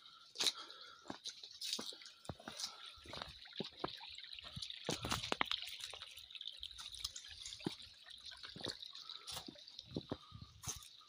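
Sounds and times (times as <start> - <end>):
stream trickling over stones: 0.0 - 11.0
water drips and plops: 0.0 - 11.0.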